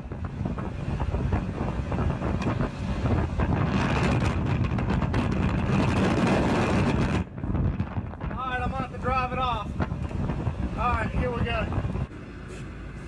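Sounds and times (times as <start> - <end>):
wind buffeting microphone: 0.0 - 12.1
road and truck noise: 0.0 - 13.0.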